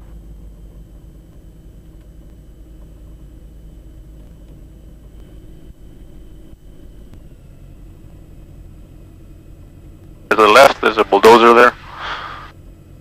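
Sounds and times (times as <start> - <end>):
aircraft engines droning: 0.0 - 13.0
faint high whine: 0.0 - 13.0.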